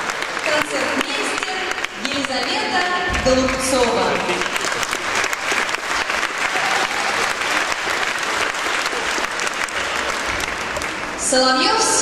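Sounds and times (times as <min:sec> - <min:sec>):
crowd applauding: 0:00.0 - 0:11.7.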